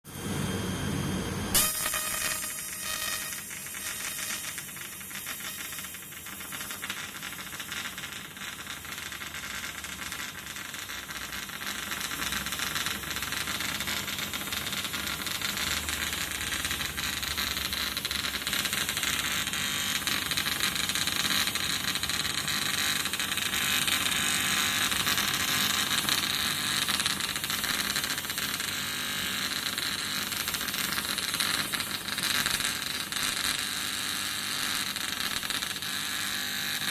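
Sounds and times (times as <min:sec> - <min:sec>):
welding arc hissing buzz: 0:00.1 - 0:36.9.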